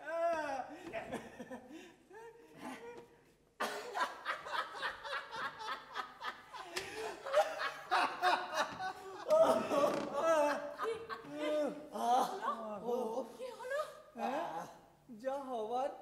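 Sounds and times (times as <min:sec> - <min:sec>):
people laughing: 0:00.8 - 0:14.0.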